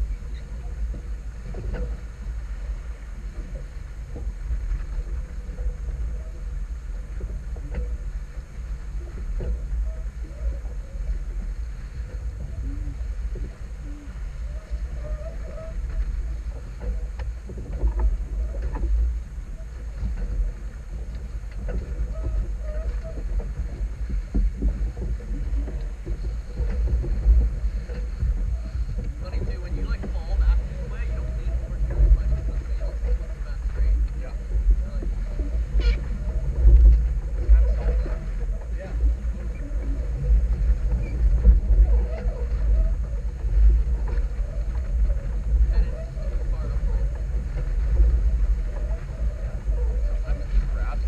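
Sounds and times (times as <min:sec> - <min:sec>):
boat knocks and creaks: 0:00.0 - 0:51.0
water rushing along hull: 0:00.0 - 0:51.0
wind rumbling on microphone: 0:00.0 - 0:51.0.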